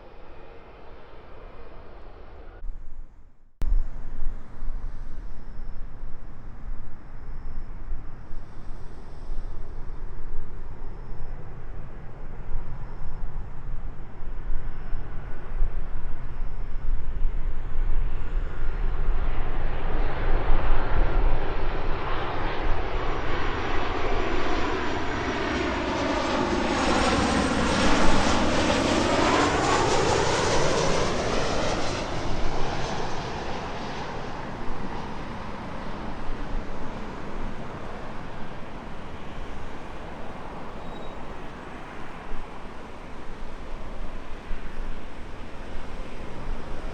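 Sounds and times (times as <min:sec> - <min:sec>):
high jet engine whine: 0:00.0 - 0:02.6, 0:03.6 - 0:46.9
jet airliner passing overhead: 0:00.0 - 0:02.6, 0:03.8 - 0:46.9.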